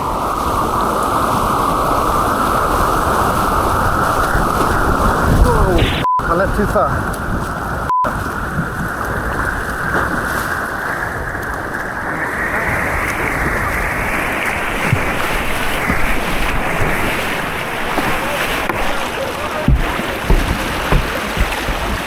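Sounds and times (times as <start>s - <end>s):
rushing white water: 0.0s - 22.0s.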